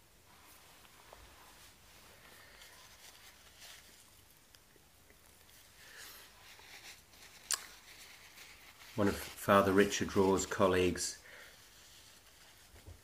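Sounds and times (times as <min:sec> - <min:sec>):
faint soft rustles: 0:00.0 - 0:13.0.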